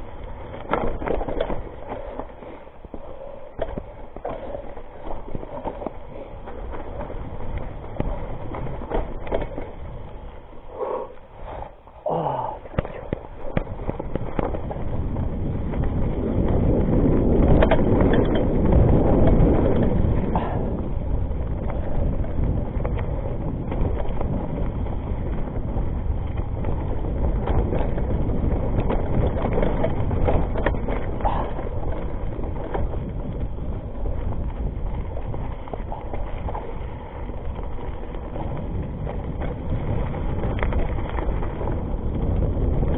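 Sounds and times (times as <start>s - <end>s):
bike rattling: 0.0s - 42.9s
bike tyre noise: 0.0s - 42.9s
wind rushing over microphone: 0.0s - 42.9s.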